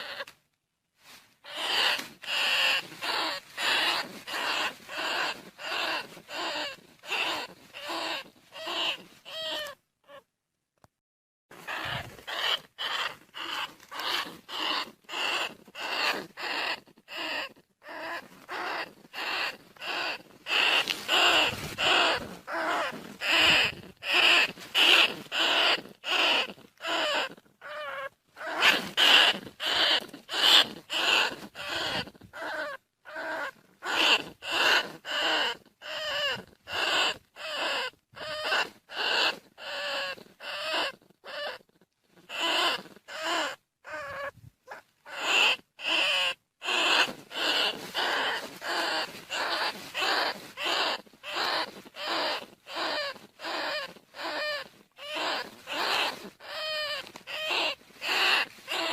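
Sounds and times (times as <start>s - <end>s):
rat squeaking: 0.0s - 0.4s, 1.4s - 10.3s, 11.5s - 58.9s.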